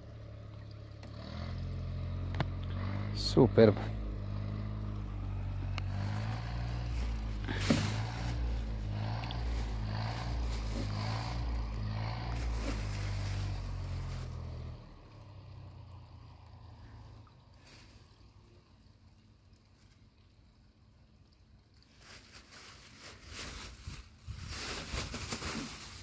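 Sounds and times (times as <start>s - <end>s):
low motor hum: 0.0s - 21.5s.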